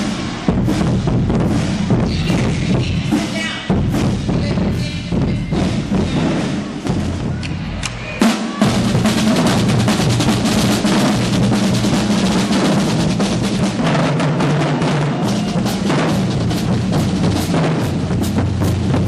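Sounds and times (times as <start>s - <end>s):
music with busy drum beat: 0.0s - 19.0s.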